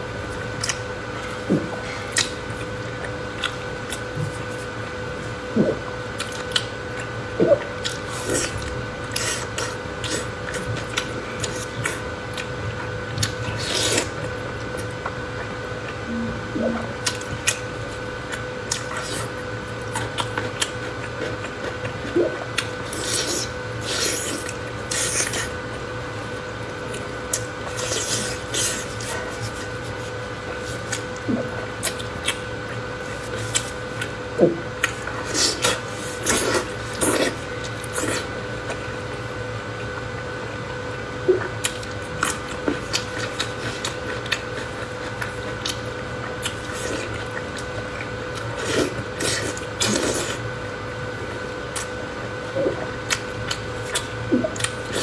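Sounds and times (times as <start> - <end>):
faint hum: 0.0 - 55.0
person chewing and crunching: 0.3 - 38.8, 41.3 - 50.5, 51.3 - 55.0.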